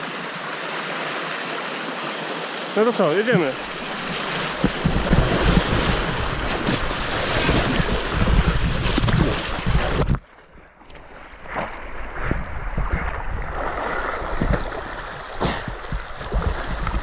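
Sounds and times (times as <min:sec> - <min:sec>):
river water splashing: 0:00.0 - 0:17.0.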